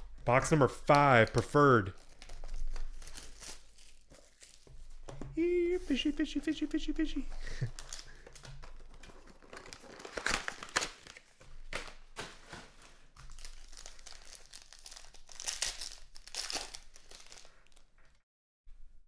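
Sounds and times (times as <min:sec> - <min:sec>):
foil wrapper crinkling and tearing: 0:00.3 - 0:18.2.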